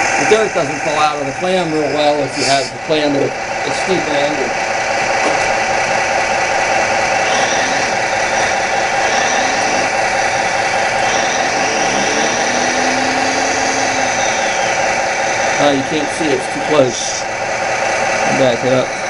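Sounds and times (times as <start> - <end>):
diesel engine sound effect: 0.0 - 19.0
gliding tone: 0.0 - 19.0
hydraulic pump whine: 0.0 - 19.0.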